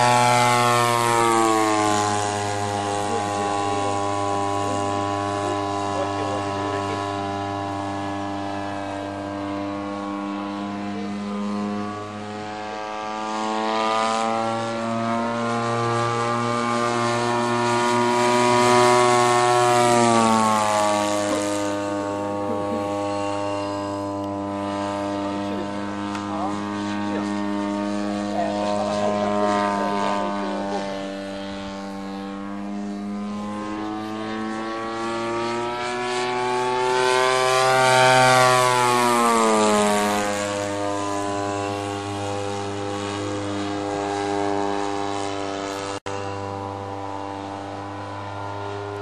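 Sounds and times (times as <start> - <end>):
model plane engine droning: 0.0 - 49.0.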